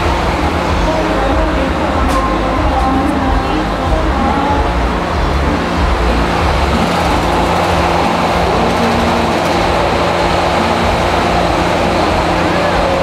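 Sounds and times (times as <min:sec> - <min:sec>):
fairground ride machinery rumble: 0:00.0 - 0:13.0.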